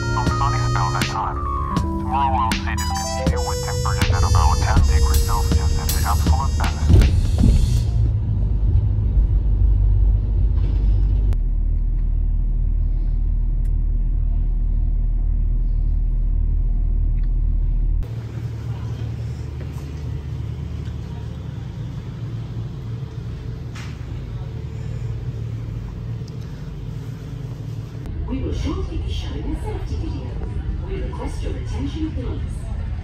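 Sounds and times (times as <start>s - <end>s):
low engine rumble: 0.0s - 33.0s.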